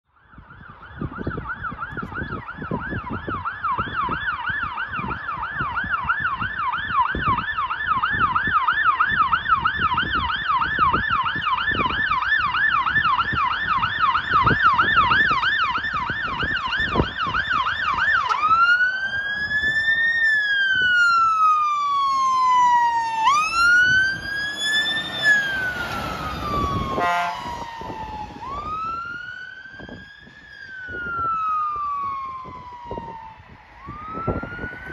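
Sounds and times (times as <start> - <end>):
fire engine siren: 0.0 - 34.9.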